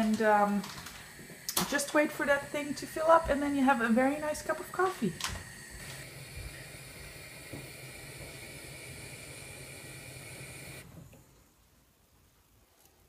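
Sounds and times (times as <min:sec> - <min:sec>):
moka pot hissing: 0:00.0 - 0:11.5.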